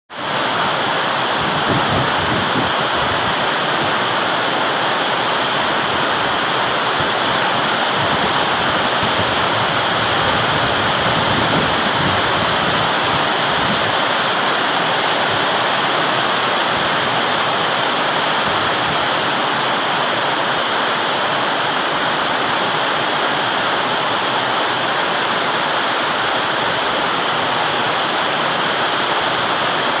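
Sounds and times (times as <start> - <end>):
water falling in a loud rush: 0.1 - 30.0.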